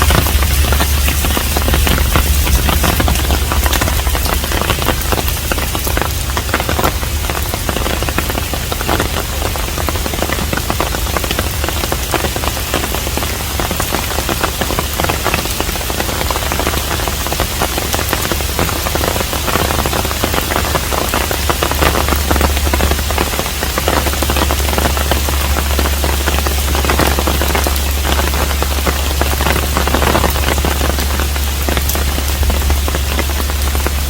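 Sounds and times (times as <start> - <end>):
low hum: 0.0 - 13.8, 20.1 - 34.0
rain falling on a house: 0.0 - 34.0.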